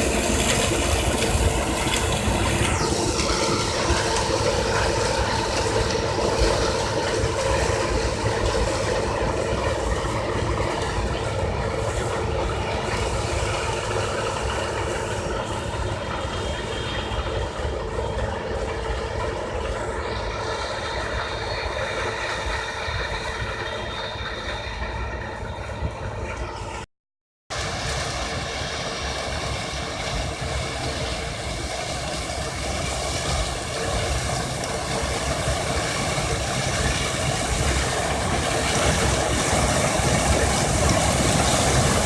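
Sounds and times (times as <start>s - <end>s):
combine harvester running: 0.0s - 26.9s, 27.5s - 42.0s.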